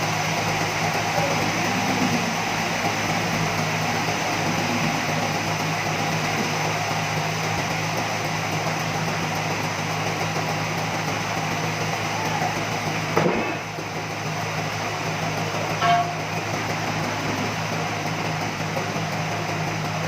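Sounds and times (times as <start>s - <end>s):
sawmill machinery humming and hissing: 0.0s - 20.0s.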